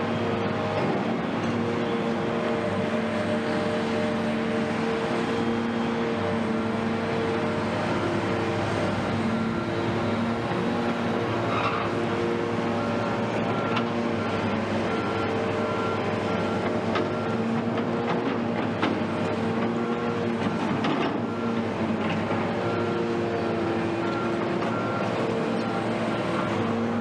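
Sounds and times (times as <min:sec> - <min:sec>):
engine drone: 0:00.0 - 0:27.0.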